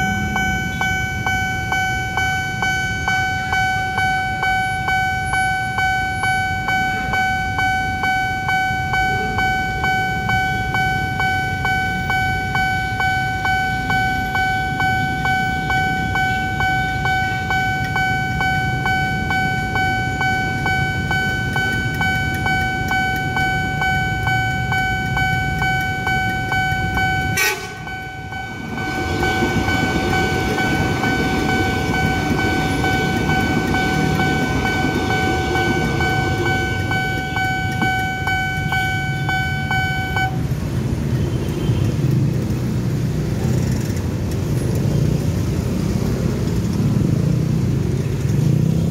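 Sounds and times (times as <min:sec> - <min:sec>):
pulsing electronic warning alarm: 0:00.0 - 0:43.4
passing train rumble: 0:00.0 - 0:48.9.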